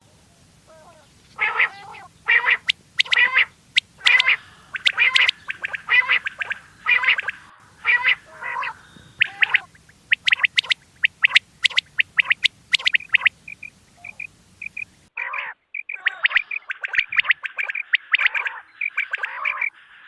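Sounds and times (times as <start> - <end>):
low background hum: 0.0 - 20.0
recorded quail calls: 0.7 - 20.0.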